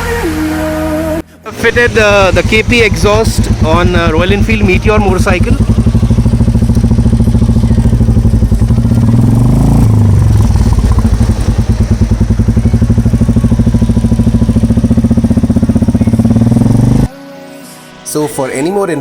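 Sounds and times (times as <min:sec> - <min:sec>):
motorcycle engine idling and revving: 0:00.0 - 0:17.1.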